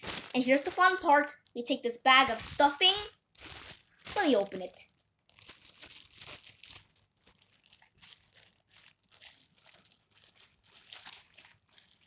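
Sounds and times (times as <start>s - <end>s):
bag of stuffing rustling: 0.0s - 12.0s.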